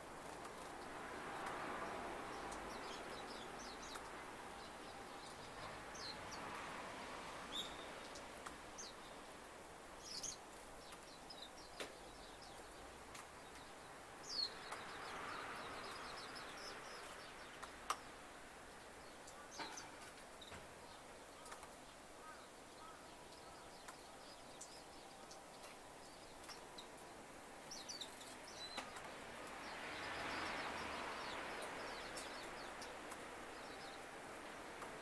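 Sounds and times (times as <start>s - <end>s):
small birds chirping: 0.0s - 35.0s
soft rush of noise: 0.0s - 35.0s.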